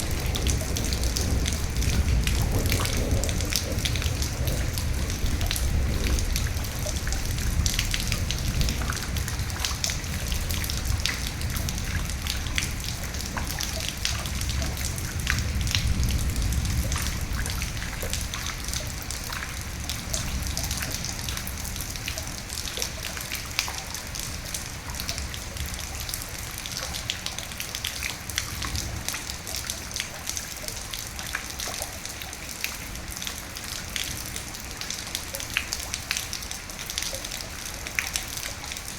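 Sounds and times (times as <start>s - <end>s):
rain drops on a hard surface: 0.0s - 38.9s.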